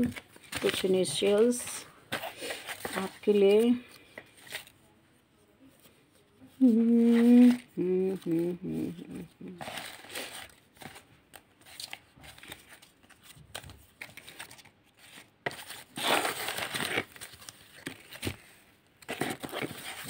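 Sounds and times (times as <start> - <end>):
paper cards rustling: 0.0 - 4.8, 5.8 - 20.0.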